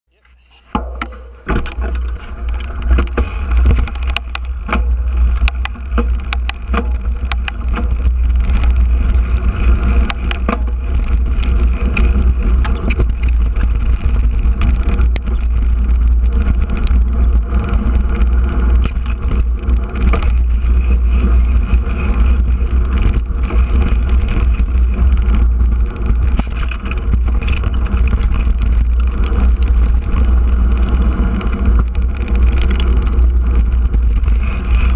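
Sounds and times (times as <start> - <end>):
bike rattling over rough ground: 0.7 - 34.9
wind rumble on microphone: 0.7 - 34.9.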